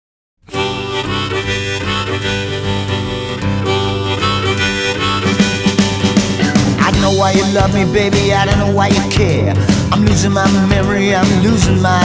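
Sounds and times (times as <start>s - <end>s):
guitar: 0.4s - 12.0s
harmonica: 0.4s - 12.0s.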